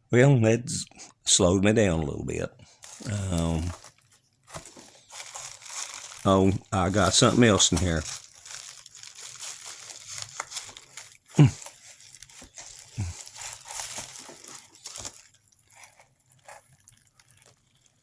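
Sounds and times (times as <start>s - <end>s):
packaging crinkling and rustling: 2.7s - 18.0s.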